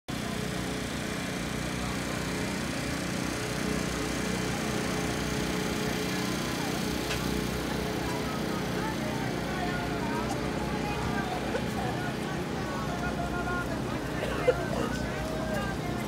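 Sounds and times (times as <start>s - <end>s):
faint crowd voices: 0.1s - 16.0s
generator humming: 0.1s - 16.0s.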